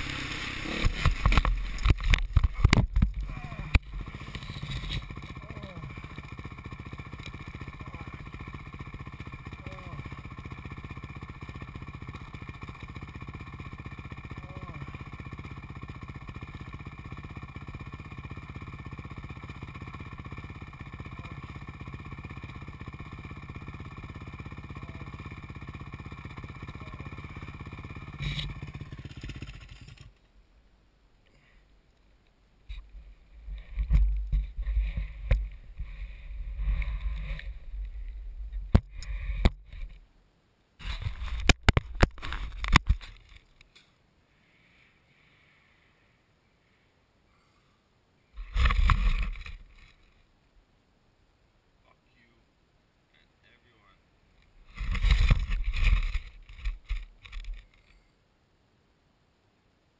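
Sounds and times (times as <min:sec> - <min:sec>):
dirt bike engine idling: 0:00.0 - 0:30.5, 0:31.3 - 0:31.8, 0:32.5 - 0:40.1, 0:40.8 - 0:50.4, 0:54.4 - 0:58.2.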